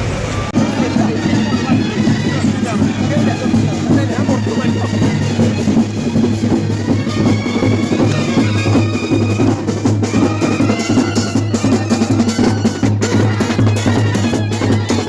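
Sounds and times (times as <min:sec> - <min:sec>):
held instrument tones: 0:00.0 - 0:15.0
percussion ensemble drumming: 0:00.0 - 0:15.0.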